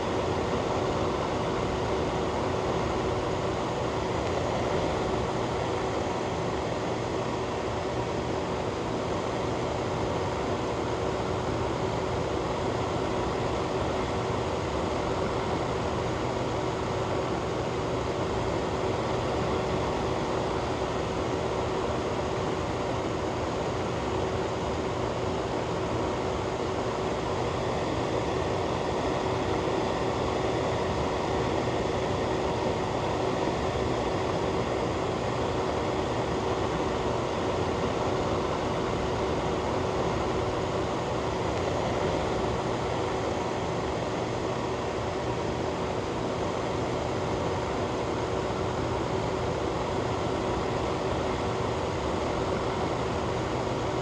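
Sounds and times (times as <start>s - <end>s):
constant hum: 0.0s - 54.0s
ventilation fan air rush: 0.0s - 54.0s.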